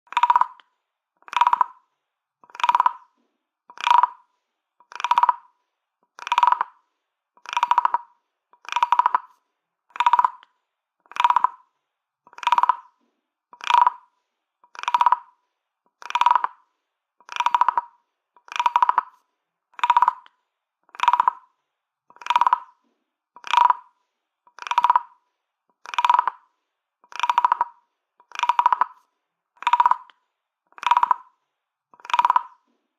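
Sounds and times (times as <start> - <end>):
wooden frog toy croaking: 0.1 - 1.8, 2.4 - 6.8, 7.4 - 16.6, 17.2 - 22.8, 23.4 - 29.0, 29.6 - 32.7.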